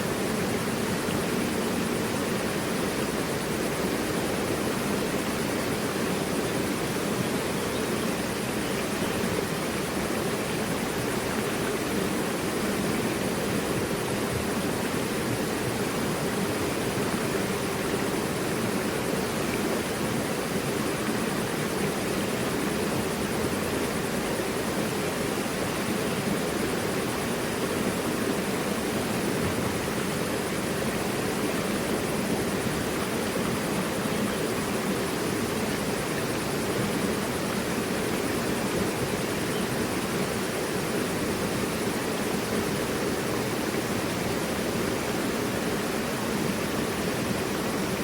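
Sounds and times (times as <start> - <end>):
river rushing over rocks: 0.0 - 48.0.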